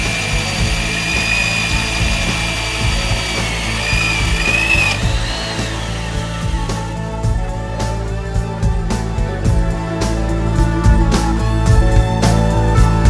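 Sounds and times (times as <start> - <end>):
electric drill whining: 0.0 - 12.1
background music: 0.0 - 13.0.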